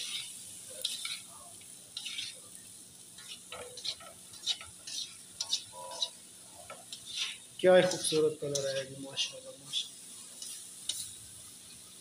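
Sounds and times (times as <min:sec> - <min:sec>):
spatula scraping wok: 0:00.0 - 0:11.9
stir-fry sizzling: 0:00.0 - 0:12.0.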